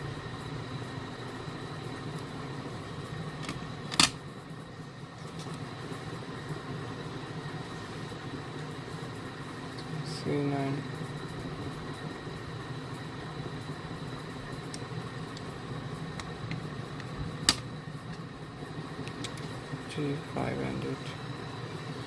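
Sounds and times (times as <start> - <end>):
fan-like room hum: 0.0 - 22.0.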